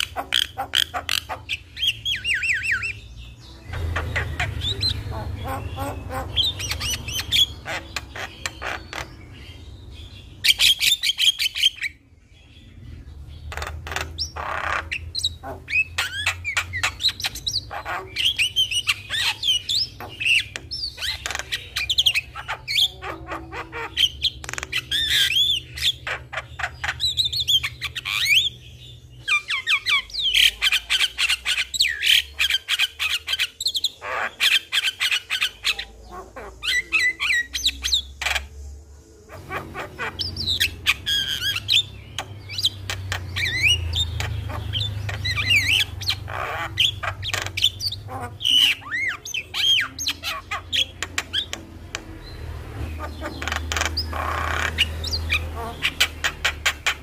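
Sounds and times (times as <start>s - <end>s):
myna singing and chattering: 0.0s - 11.4s, 13.4s - 28.4s, 29.3s - 57.0s.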